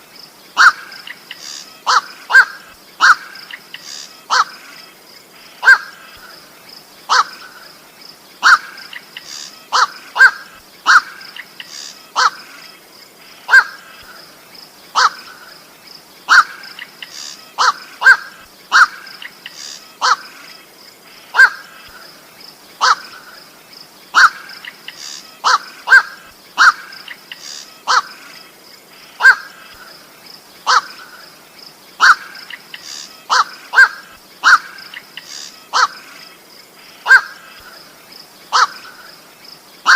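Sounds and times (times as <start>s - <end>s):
harsh bird calls: 0.5s - 39.9s.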